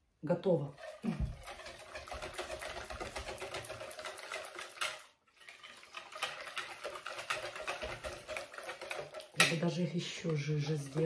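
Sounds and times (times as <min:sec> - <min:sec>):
wire whisk beating batter: 0:00.6 - 0:11.0.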